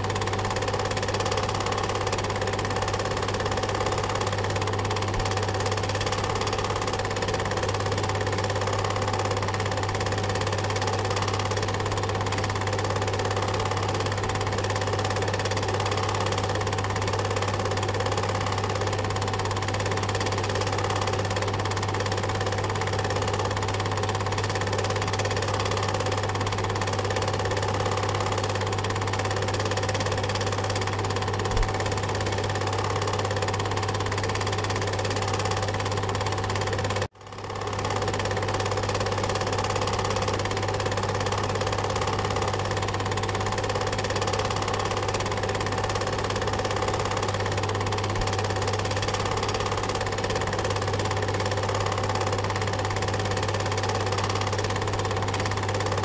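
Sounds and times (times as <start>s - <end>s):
film projector running: 0.0s - 56.0s.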